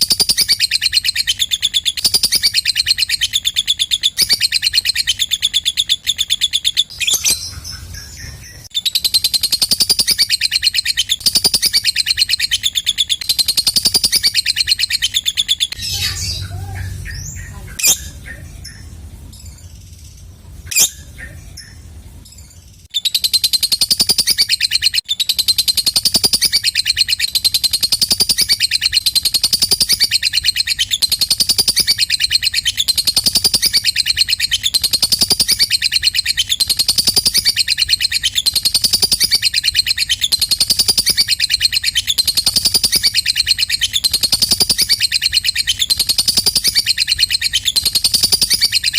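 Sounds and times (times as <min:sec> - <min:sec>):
bird chattering trill: 0:00.0 - 0:48.9
sharp bird chirp: 0:00.0 - 0:48.9.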